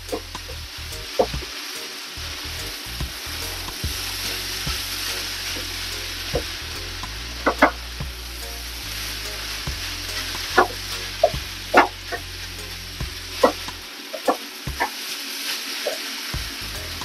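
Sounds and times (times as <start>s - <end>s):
fried rice sizzling in a pan: 0.0s - 17.0s.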